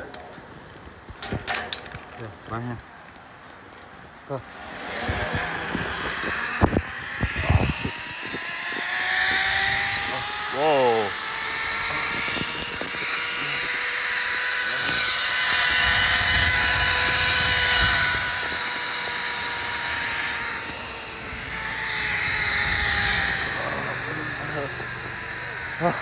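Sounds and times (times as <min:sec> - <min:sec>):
atv engine whining: 0:04.1 - 0:26.0.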